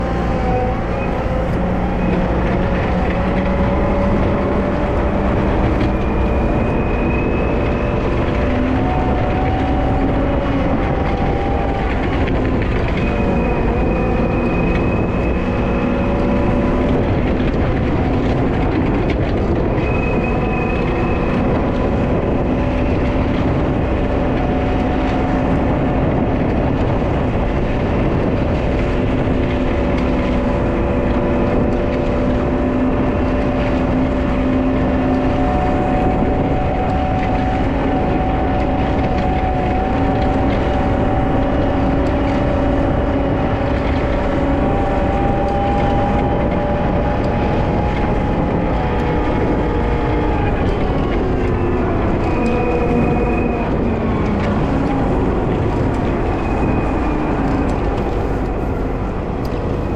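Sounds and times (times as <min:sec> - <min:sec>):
diesel engine rumbling: 0:00.0 - 0:59.9
whining tones: 0:00.0 - 0:59.9.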